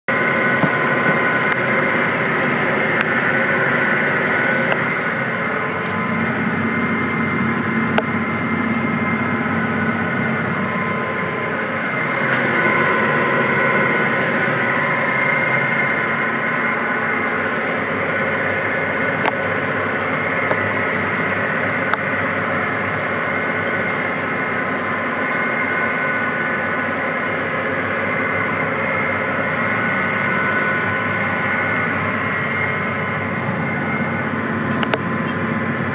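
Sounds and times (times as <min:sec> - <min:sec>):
tractor engine running: 0:00.1 - 0:35.9.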